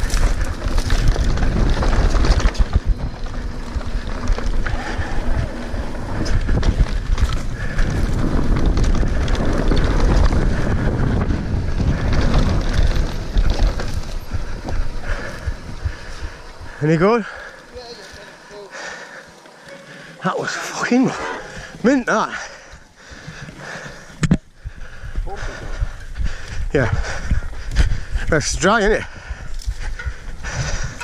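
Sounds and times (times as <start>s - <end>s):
wind buffeting microphone: 0.0s - 18.3s, 21.0s - 31.0s
bike rattling over bumps: 0.0s - 31.0s
bike tyres rumbling on dirt: 0.0s - 31.0s.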